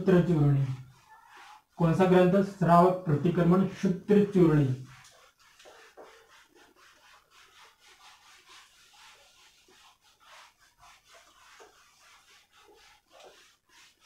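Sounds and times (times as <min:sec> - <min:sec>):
whiteboard wiping swishes: 0:00.0 - 0:14.0.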